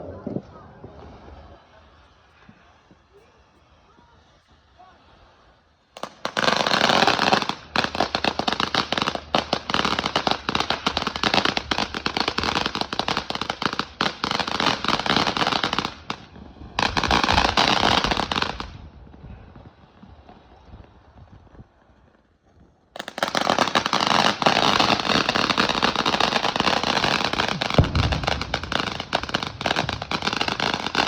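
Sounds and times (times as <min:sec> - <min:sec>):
fireworks crackling pops: 0:05.4 - 0:31.0.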